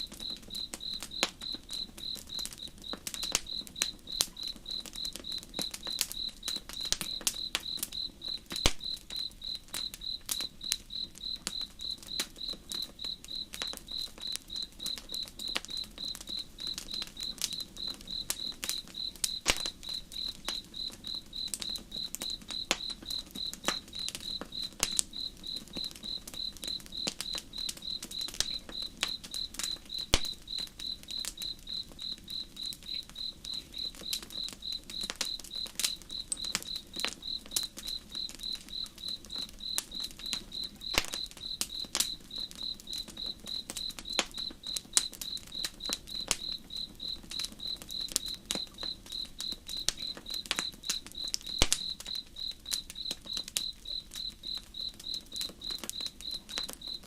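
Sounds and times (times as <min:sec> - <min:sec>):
campfire crackling and popping: 0:00.0 - 0:57.0
cricket chirping: 0:00.0 - 0:57.0.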